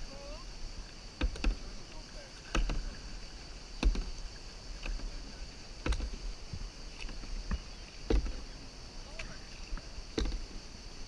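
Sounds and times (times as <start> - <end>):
kayak paddle strokes in water: 0.0 - 11.0.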